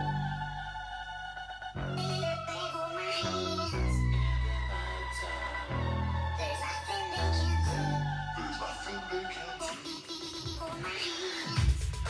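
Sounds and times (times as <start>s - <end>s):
electronic pop music: 0.0s - 12.0s.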